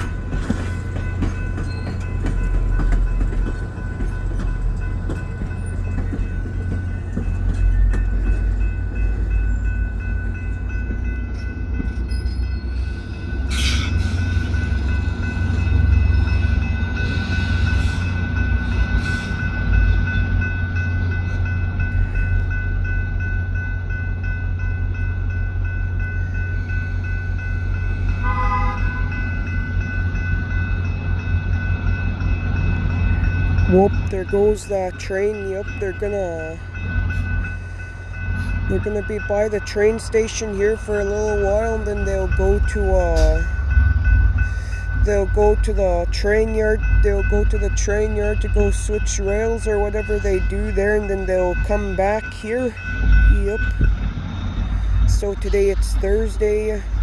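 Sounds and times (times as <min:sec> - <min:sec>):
diesel locomotive rumbling: 0:00.0 - 0:57.0.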